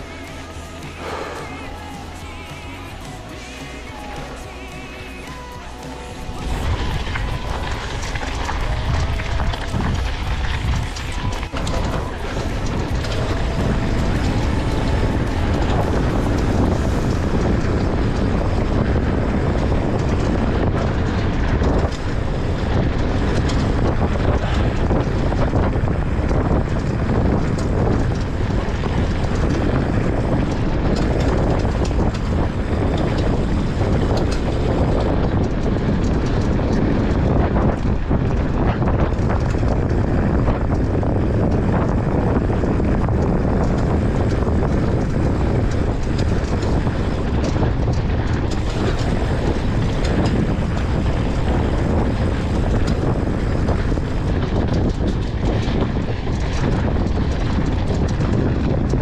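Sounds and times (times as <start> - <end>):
bike clicks and rattles: 0.0 - 59.0
wind buffeting microphone: 0.0 - 59.0.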